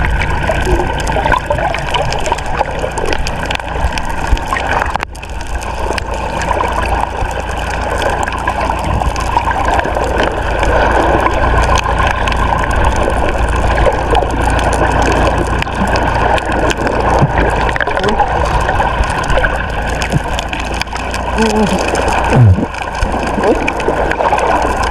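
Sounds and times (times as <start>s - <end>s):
steady low rumble: 0.0s - 24.9s
water sloshing around boat: 0.0s - 24.9s.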